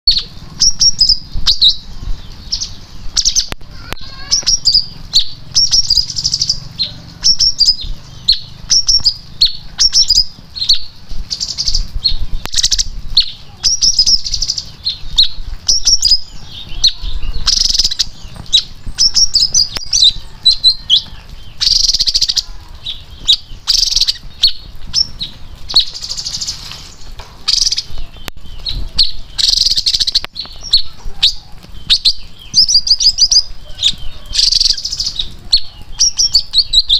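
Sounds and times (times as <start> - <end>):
bird singing: 0.0 - 36.9.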